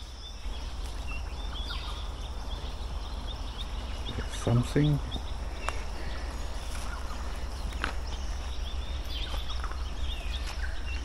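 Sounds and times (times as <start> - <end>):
background hiss: 0.0 - 11.0
birds chirping and whistling: 0.0 - 11.0
steady low rumble: 0.0 - 11.0.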